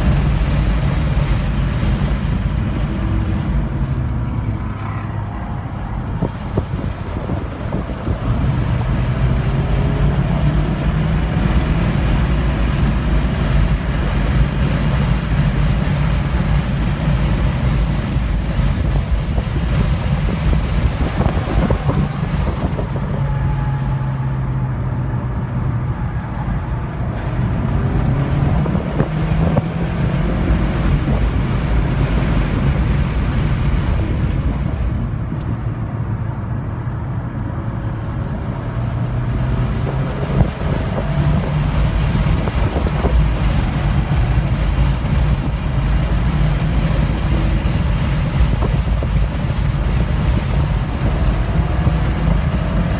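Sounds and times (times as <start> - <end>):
car engine accelerating: 0.0 - 52.9
tyre and road noise: 0.0 - 52.9.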